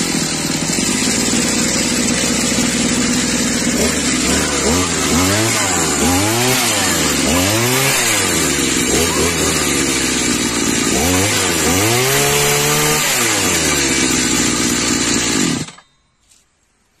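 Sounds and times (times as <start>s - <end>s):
brushcutter engine revving: 0.0s - 15.8s.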